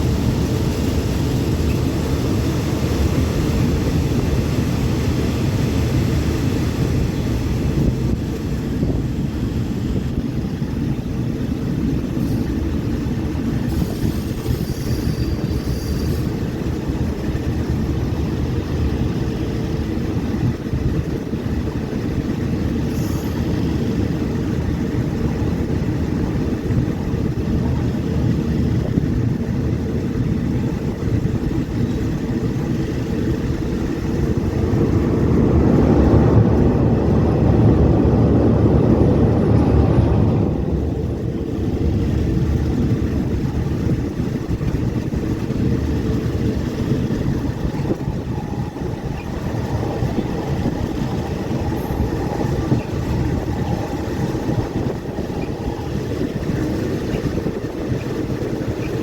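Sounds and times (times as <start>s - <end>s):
moving train rumble: 0.0s - 59.0s.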